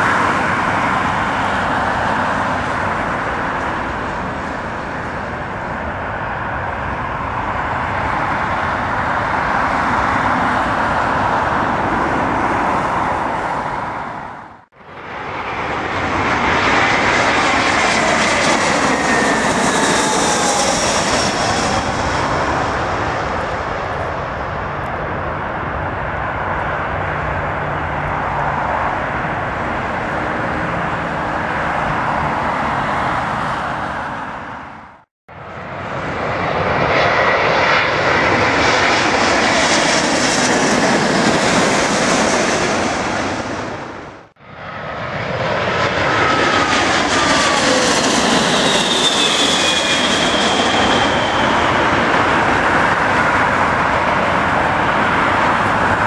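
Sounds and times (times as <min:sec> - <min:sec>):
airliner passing low overhead: 0:00.0 - 0:56.0
jet engine rush: 0:00.0 - 0:56.0.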